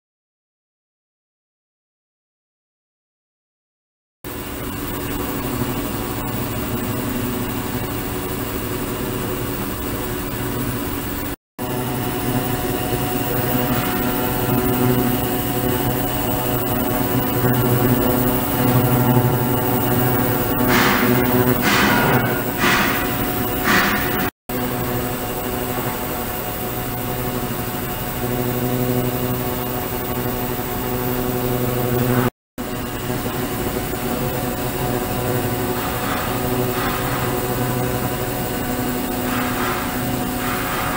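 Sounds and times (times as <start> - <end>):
ultrasonic cleaner hissing hum: 4.3 - 40.9.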